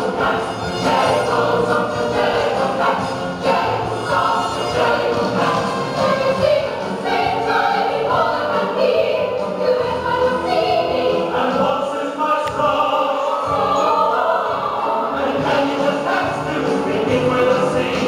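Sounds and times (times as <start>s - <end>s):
children singing with music: 0.0s - 18.0s.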